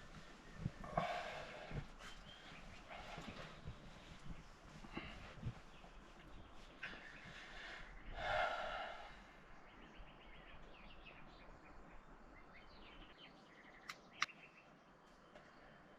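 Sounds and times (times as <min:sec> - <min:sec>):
small birds chirping softly: 0:00.0 - 0:15.9.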